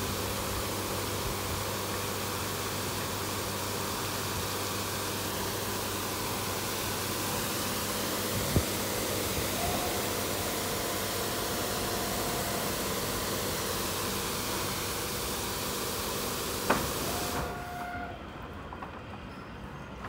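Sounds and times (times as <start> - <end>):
high-pressure water spray hissing: 0.0 - 17.6.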